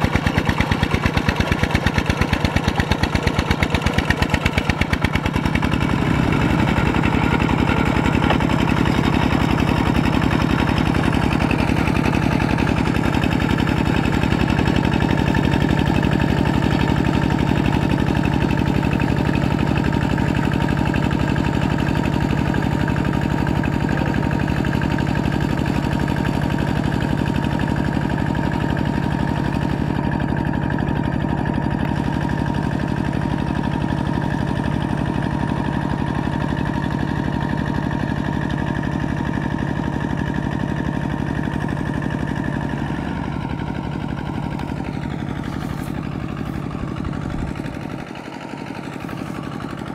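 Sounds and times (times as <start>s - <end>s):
diesel tractor engine chugging: 0.0s - 49.9s.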